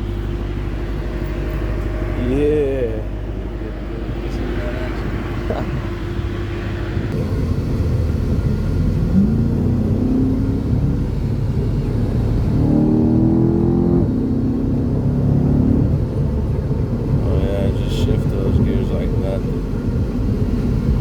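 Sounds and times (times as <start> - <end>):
pickup truck engine revving: 0.0 - 21.0.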